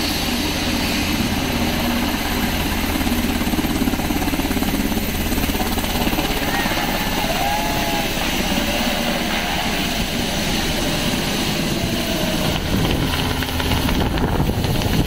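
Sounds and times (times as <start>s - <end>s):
helicopter taking off: 0.0s - 15.0s.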